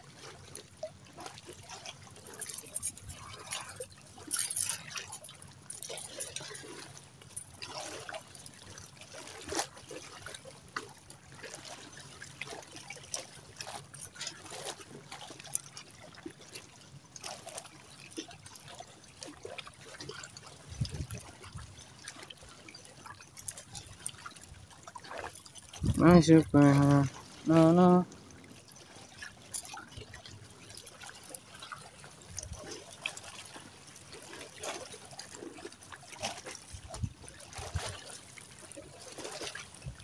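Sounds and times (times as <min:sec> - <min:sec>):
shallow water trickling and splashing: 0:00.0 - 0:40.0.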